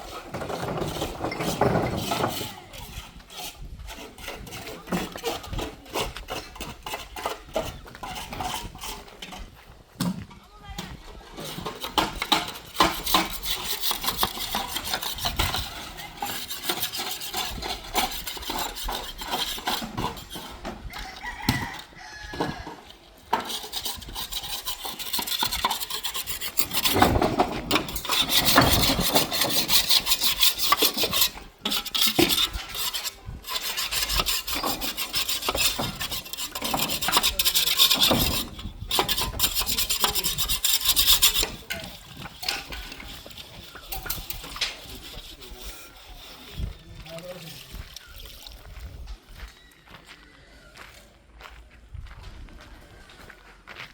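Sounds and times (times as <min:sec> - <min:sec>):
rough scraping and rasping: 0:00.0 - 0:49.2.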